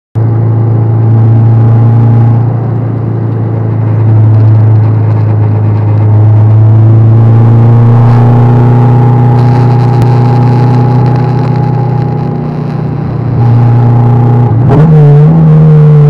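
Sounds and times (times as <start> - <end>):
car engine under load: 0.2 - 16.0.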